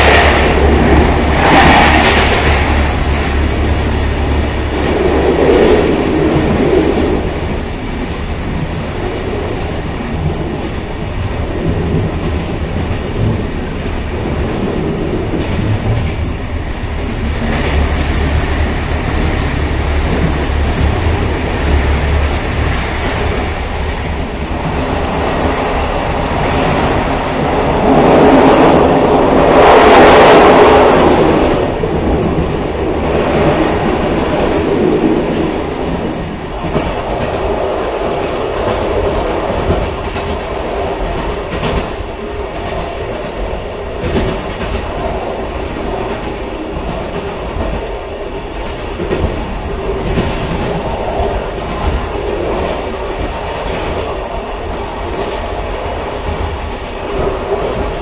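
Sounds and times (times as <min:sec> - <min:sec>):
railcar running on rails: 0:00.0 - 0:58.0.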